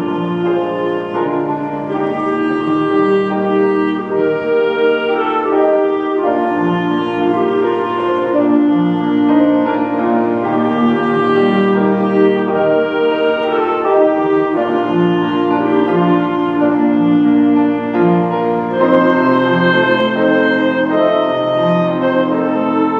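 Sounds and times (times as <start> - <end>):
orchestra playing sustained chords: 0.0 - 22.9.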